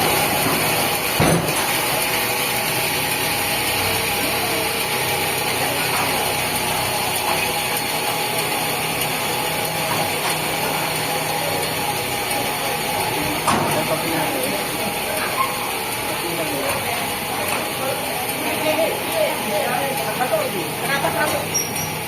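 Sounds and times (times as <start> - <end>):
sawmill machinery running: 0.0 - 22.0.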